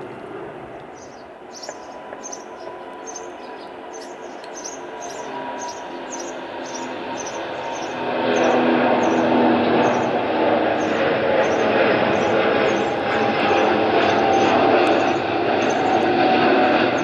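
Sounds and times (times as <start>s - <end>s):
distant jet engines rumbling: 0.0s - 17.0s.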